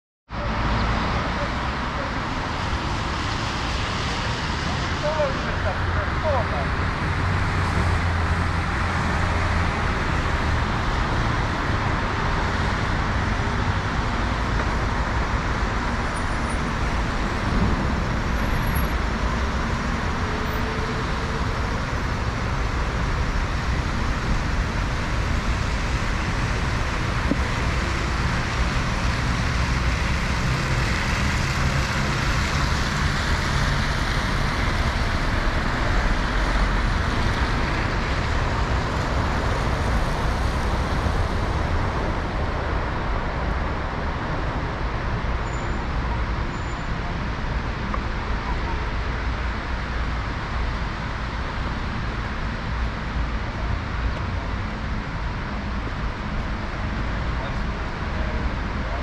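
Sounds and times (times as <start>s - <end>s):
passing car engines: 0.3s - 59.0s.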